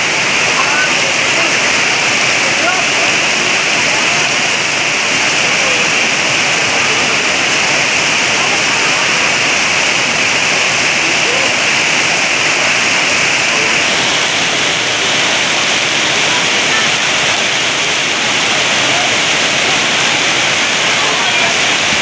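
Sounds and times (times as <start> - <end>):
heavy rain on pond water: 0.0 - 22.0.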